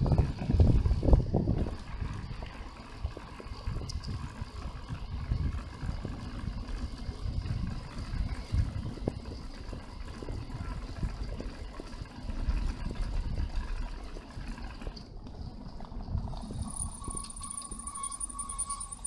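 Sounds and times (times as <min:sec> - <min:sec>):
tyre and road noise: 0:00.0 - 0:19.0
wind buffeting microphone: 0:00.0 - 0:19.0.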